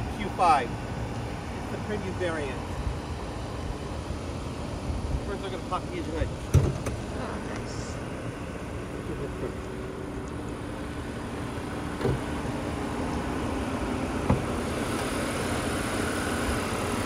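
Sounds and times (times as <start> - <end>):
low outdoor hum: 0.0 - 17.0.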